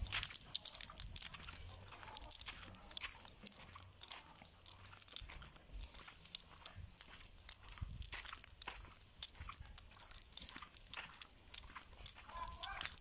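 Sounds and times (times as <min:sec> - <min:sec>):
footsteps on gritty concrete: 0:00.0 - 0:13.0.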